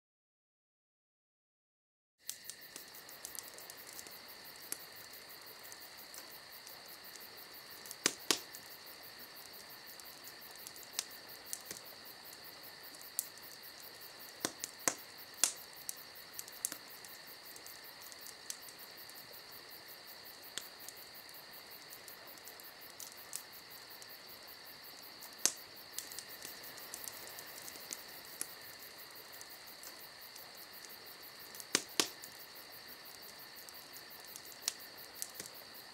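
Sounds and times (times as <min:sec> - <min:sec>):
insects singing: 0:02.2 - 0:35.9.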